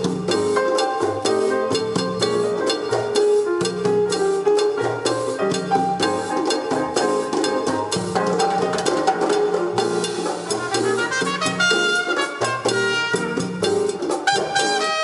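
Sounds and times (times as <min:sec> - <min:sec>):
jazzy music over loudspeakers: 0:00.0 - 0:15.0.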